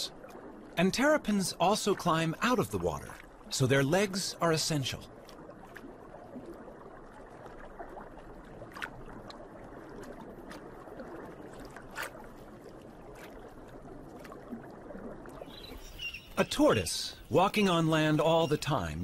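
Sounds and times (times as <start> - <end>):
muffled underwater ambience: 0.0 - 19.0.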